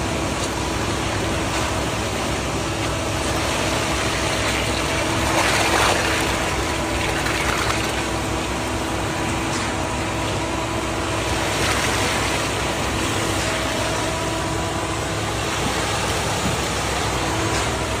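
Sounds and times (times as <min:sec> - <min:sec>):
concrete truck engine humming: 0:00.0 - 0:18.0
constant rushing noise: 0:00.0 - 0:18.0.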